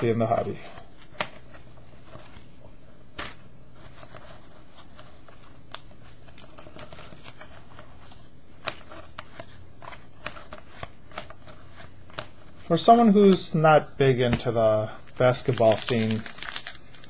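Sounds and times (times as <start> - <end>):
trading cards being flipped: 0.7 - 12.6, 15.1 - 17.0.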